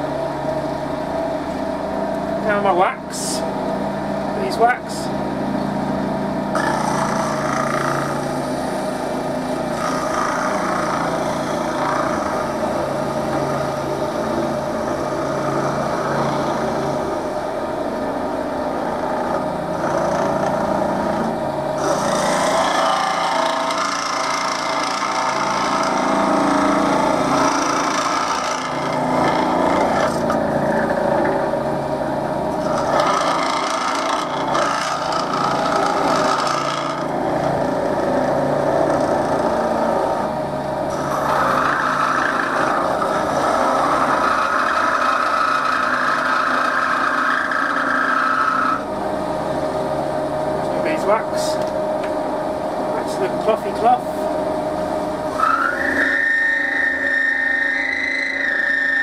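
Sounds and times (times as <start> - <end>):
wood lathe motor running: 0.0 - 59.0.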